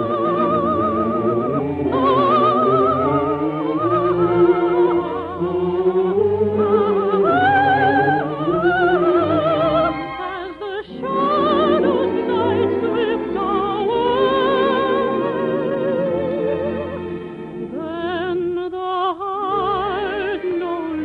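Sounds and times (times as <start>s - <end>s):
orchestral operetta music: 0.0s - 21.0s.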